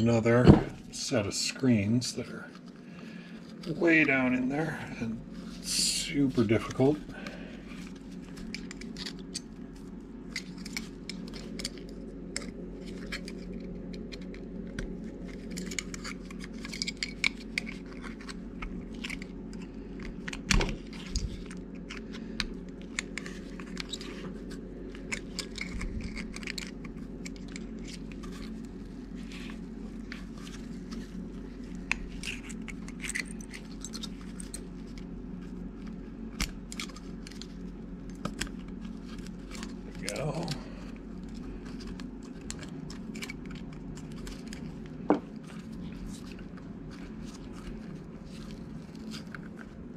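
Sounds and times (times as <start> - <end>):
steady hum: 0.0 - 49.9.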